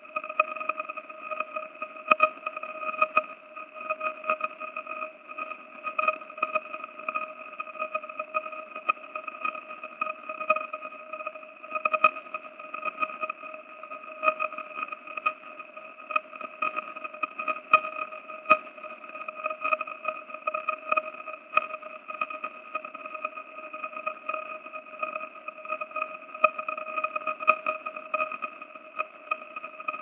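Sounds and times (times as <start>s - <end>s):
steady buzzing tone: 0.0s - 30.0s.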